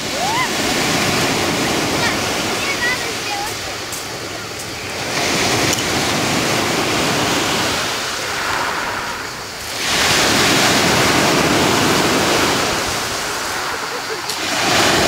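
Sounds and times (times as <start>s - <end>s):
waves breaking on pebble beach: 0.0s - 15.0s.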